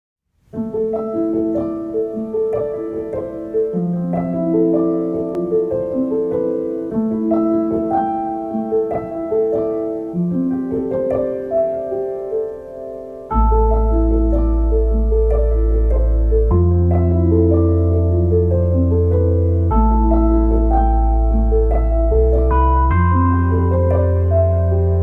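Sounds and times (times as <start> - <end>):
gentle piano melody: 0.4 - 25.0.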